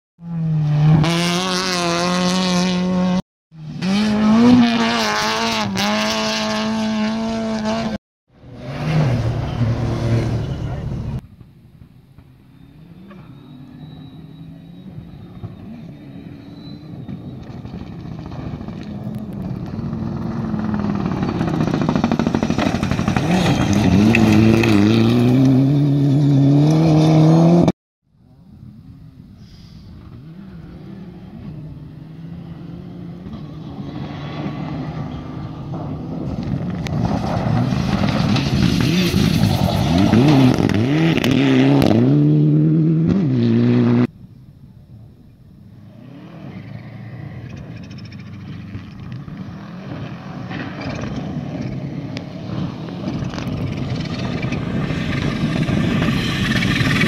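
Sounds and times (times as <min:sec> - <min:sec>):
rally car engine passing: 0:00.2 - 0:11.2, 0:12.4 - 0:27.7, 0:29.9 - 0:44.1, 0:45.0 - 0:57.0
second rally car approaching: 0:00.2 - 0:27.7, 0:28.6 - 0:57.0.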